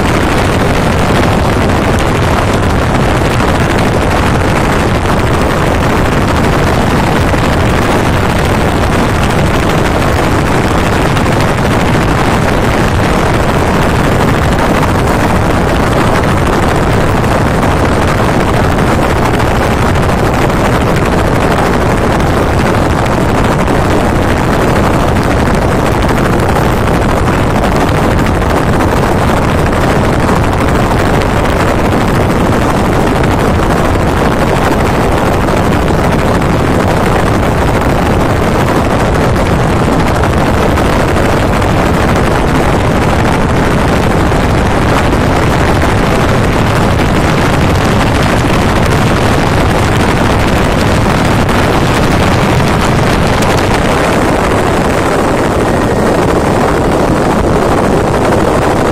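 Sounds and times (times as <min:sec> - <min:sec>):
helicopter engine and rotor roar: 0:00.0 - 0:58.9.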